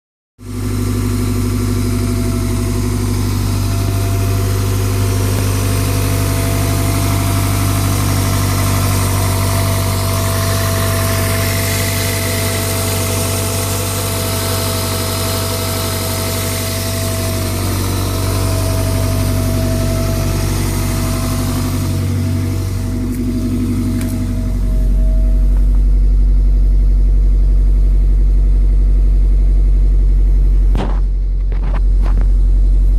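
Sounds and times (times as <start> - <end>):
car engine idling: 0.4 - 32.9.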